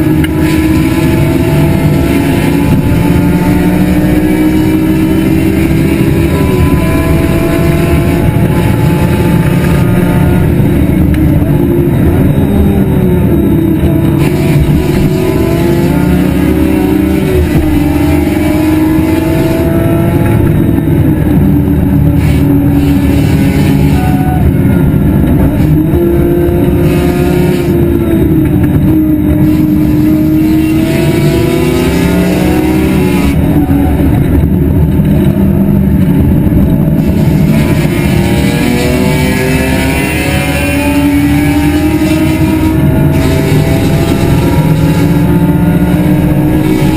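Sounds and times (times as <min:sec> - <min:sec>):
racing car engine revving: 0:00.0 - 0:46.9.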